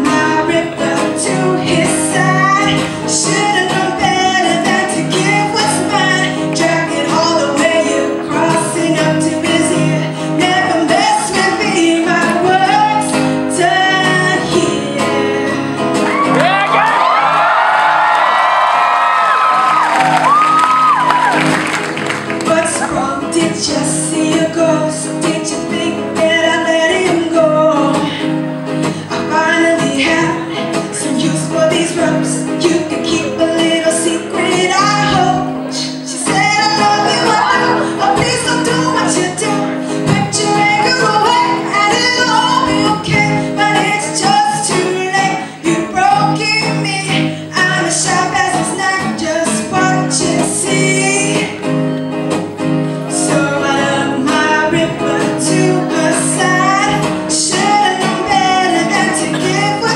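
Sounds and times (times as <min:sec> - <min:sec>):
woman singing: 0:00.0 - 0:16.4, 0:22.1 - 0:51.8, 0:53.0 - 0:59.9
acoustic guitar strumming: 0:00.0 - 0:59.9.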